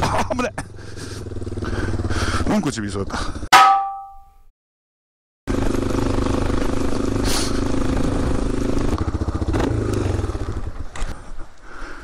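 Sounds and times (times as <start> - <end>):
motorcycle engine running: 0.0 - 4.1, 5.5 - 11.3.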